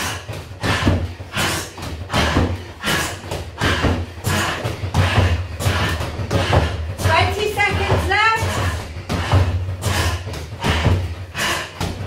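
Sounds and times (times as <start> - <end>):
gloves punching a bag: 0.0 - 12.0.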